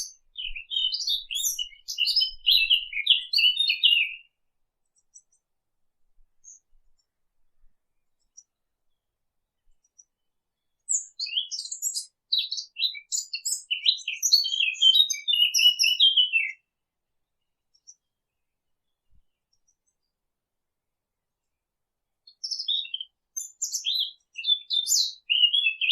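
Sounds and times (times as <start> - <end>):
warbler singing: 0.0 - 5.4, 7.8 - 20.2, 22.2 - 25.9.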